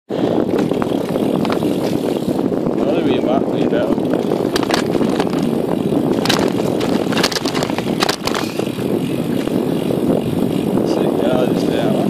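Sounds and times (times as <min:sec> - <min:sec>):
bike rattles and knocks: 0:00.1 - 0:12.0
bike tyre rumble on rough lane: 0:00.1 - 0:12.0
wind buffeting microphone: 0:00.1 - 0:12.0.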